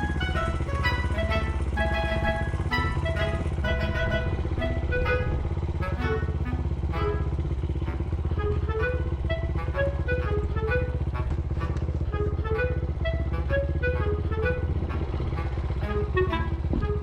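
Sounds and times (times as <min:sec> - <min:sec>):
background music: 0:00.0 - 0:07.3, 0:08.4 - 0:11.3, 0:12.1 - 0:17.0
small engine running: 0:00.0 - 0:17.0.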